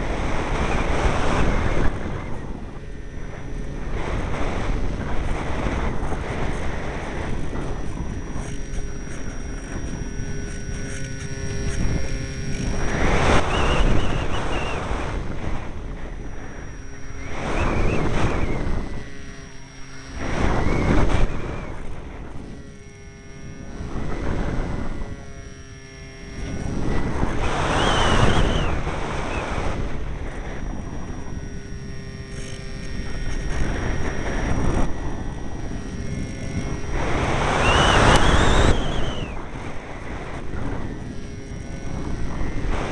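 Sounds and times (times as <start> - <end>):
faint high whine: 0.0 - 42.9
strong wind gusts on microphone: 0.0 - 42.9.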